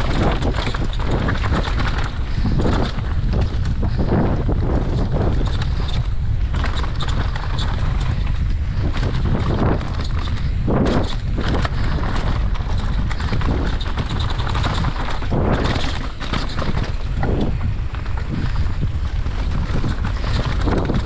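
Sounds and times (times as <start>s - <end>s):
bike clicks and rattles: 0.0s - 21.0s
tyres crunching over dirt: 0.0s - 21.0s
wind rushing over microphone: 0.0s - 21.0s.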